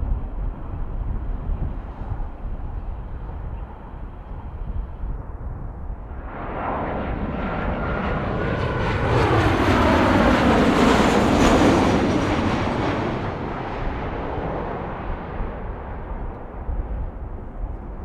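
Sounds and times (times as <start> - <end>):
jet airliner engine noise: 0.0 - 18.0.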